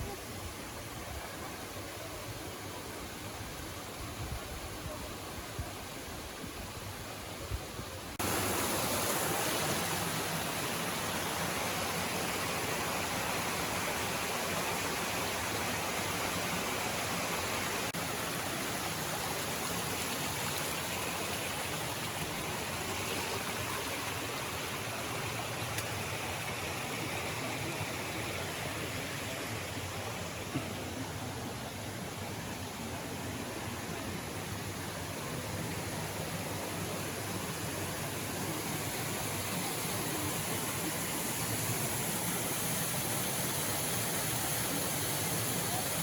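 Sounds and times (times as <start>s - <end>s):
waterfall rushing: 8.2s - 46.0s.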